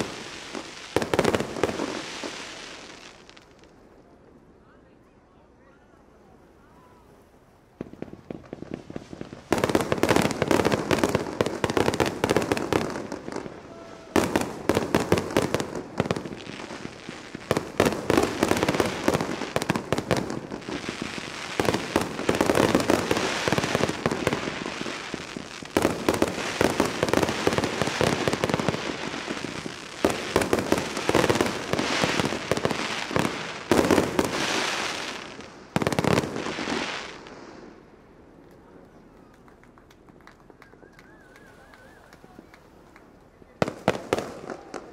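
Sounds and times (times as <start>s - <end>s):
fireworks crackling and banging: 0.0s - 4.0s, 7.7s - 44.9s.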